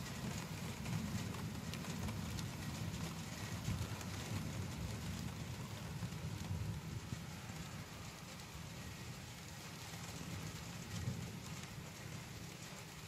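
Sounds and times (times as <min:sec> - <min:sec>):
low thunder rumble: 0:00.0 - 0:12.6
rain: 0:00.0 - 0:13.0
raindrops ticking: 0:00.0 - 0:13.0.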